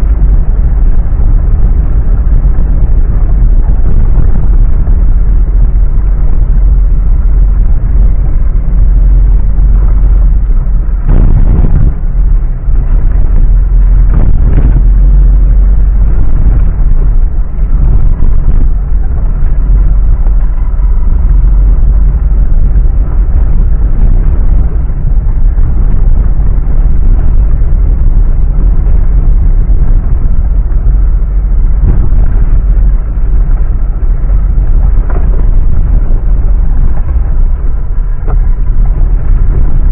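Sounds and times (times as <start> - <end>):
off-road vehicle engine rumble: 0.0 - 39.9.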